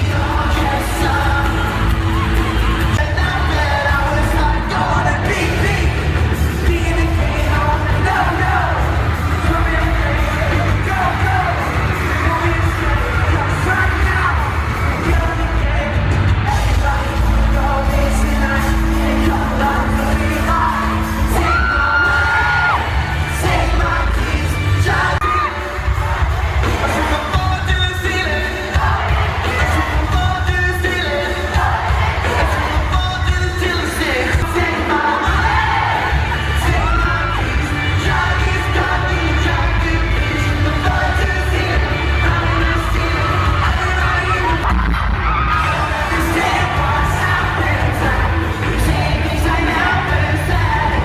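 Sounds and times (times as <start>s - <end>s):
heavy drums and bass: 0.0s - 51.0s
lead singer: 0.0s - 51.0s
live pop-rock band: 0.0s - 51.0s.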